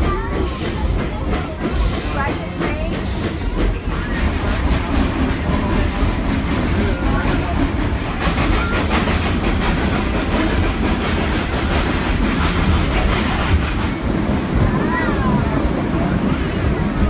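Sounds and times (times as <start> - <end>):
train rumbling with wheel clatter: 0.0 - 17.0.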